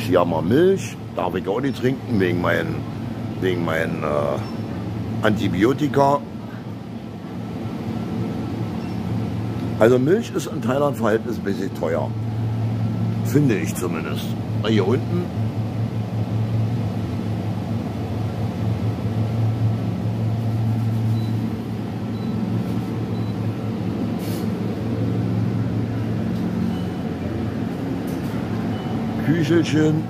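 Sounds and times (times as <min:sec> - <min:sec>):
refrigerated chillers humming: 0:00.0 - 0:30.0.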